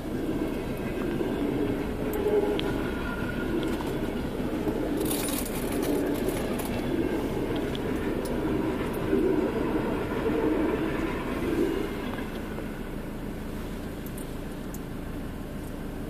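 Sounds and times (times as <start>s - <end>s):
train wheels rumbling on rail: 0.0s - 15.5s.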